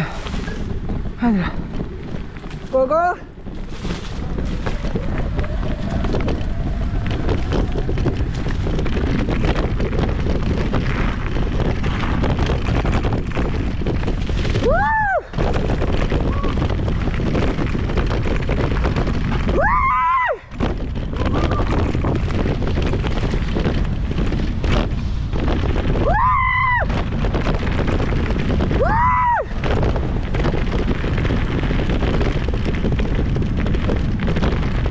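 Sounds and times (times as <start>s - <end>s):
mountain bike rattling: 0.0s - 34.9s
wind buffeting microphone: 0.0s - 34.9s.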